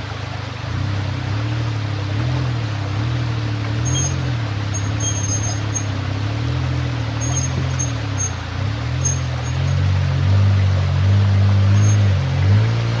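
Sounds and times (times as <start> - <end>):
car engine at low revs: 0.0 - 13.0
stream rushing: 0.0 - 13.0.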